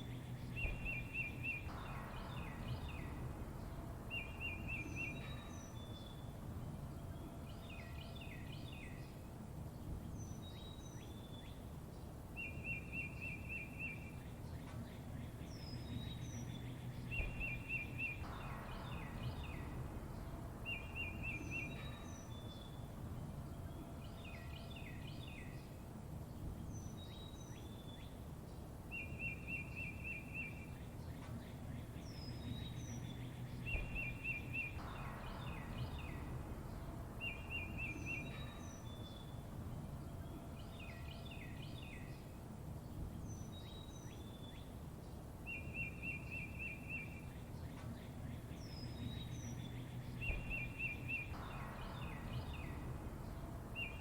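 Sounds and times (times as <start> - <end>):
low background rumble: 0.0 - 54.0
songbirds chirping and singing: 0.0 - 54.0.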